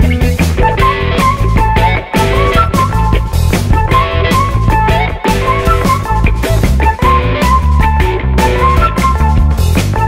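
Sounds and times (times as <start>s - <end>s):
loud music with steady beat: 0.0s - 10.0s.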